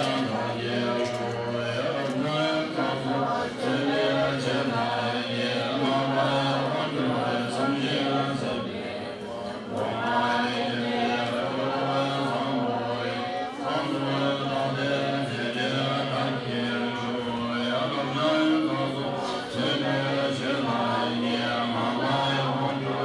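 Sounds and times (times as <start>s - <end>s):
men chanting in low drone: 0.0s - 23.0s.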